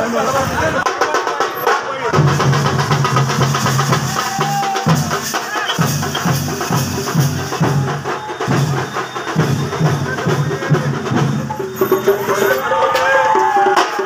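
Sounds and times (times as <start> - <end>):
large drums beating: 0.4 - 14.0.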